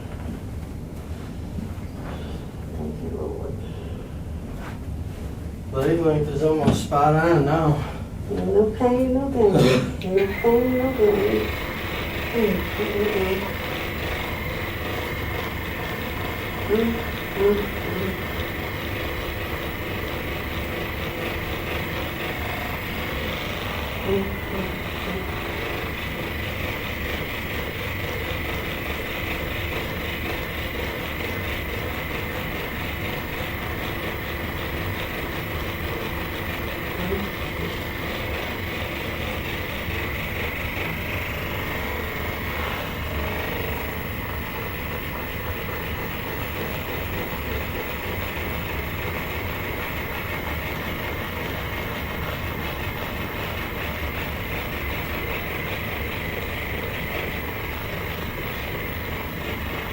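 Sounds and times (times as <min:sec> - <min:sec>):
small motor buzzing: 0:09.6 - 0:59.9.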